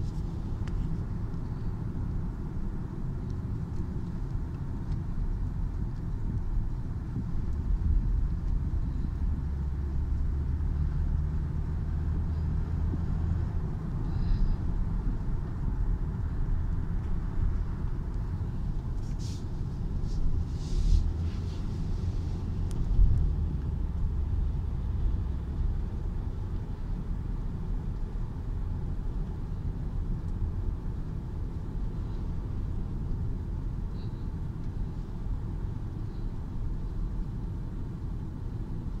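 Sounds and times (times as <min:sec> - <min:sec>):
road and engine rumble inside car: 0:00.0 - 0:39.0.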